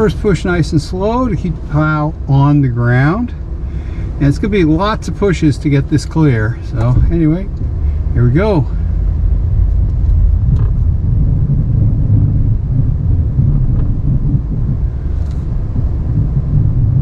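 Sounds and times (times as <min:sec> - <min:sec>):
truck engine under load: 0:00.0 - 0:17.0.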